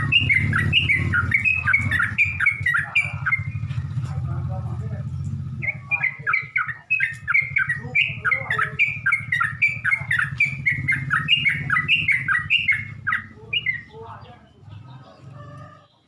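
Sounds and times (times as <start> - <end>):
bulbul bubbly chattering song: 0.0 - 15.0
steady low hum: 0.0 - 15.4.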